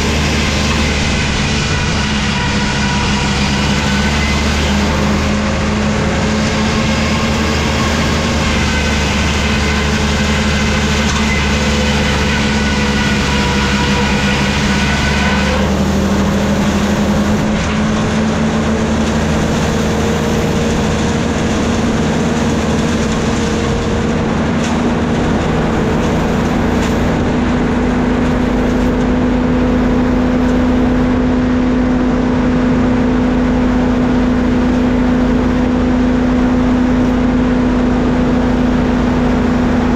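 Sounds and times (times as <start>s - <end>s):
high machine whine: 0.0s - 39.9s
sawmill machinery low hum: 0.0s - 39.9s.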